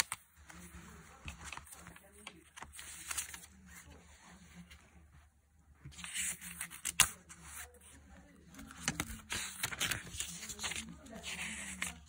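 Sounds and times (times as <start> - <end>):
paper pages rustling: 0.0 - 4.8, 5.8 - 12.0.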